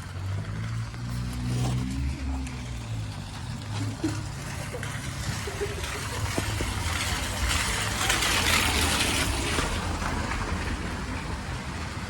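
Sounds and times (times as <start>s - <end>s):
low traffic rumble: 0.0s - 12.0s
tyre hiss on wet road: 0.2s - 11.0s.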